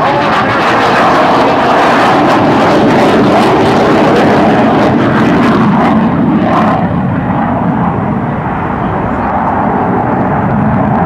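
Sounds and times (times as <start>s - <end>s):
fighter jet flying past: 0.0s - 11.0s.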